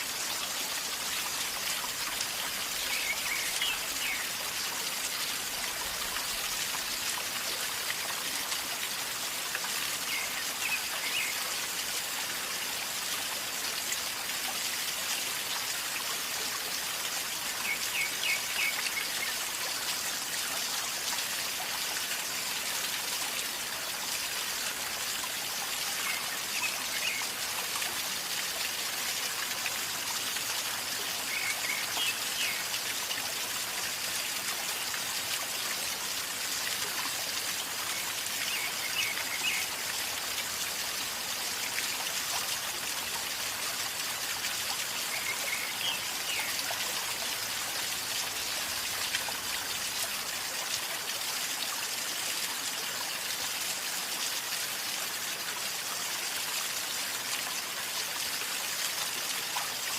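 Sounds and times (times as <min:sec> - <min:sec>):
river water gurgling: 0:00.0 - 0:59.9.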